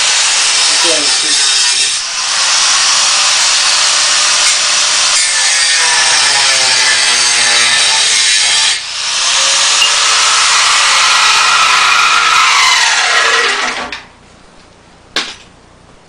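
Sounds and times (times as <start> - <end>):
power saw cutting sheet metal: 0.0 - 14.1.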